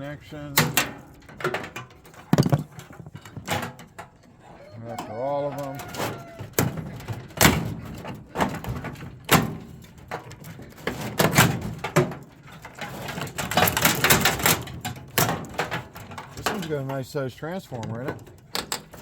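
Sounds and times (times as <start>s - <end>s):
hand tools clanking on metal: 0.0s - 19.0s.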